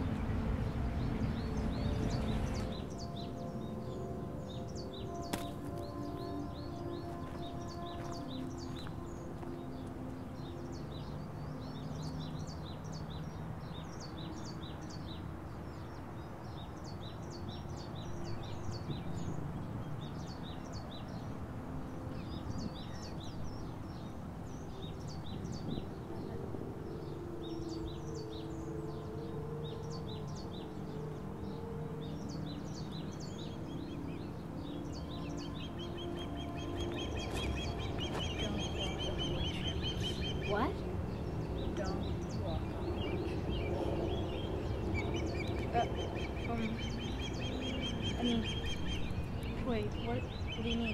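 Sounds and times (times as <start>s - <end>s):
slow held low notes: 0.0s - 50.9s
small birds chirping: 0.0s - 50.9s.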